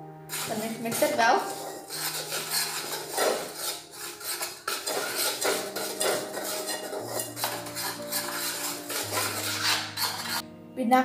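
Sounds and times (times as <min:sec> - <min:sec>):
spoon scraping metal bowl: 0:00.3 - 0:10.4.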